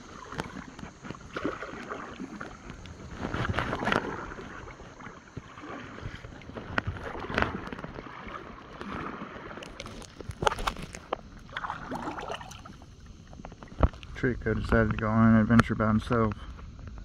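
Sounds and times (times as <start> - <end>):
paddle splashing water: 0.0 - 14.2.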